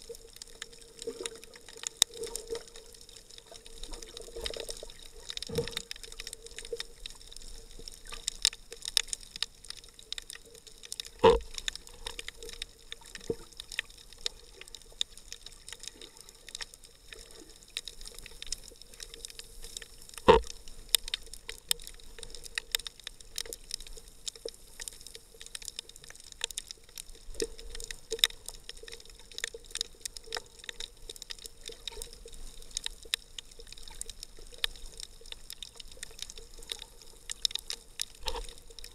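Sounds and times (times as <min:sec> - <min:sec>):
crackle of scattered clicks: 0:00.0 - 0:38.9
muffled underwater movement: 0:00.0 - 0:38.9.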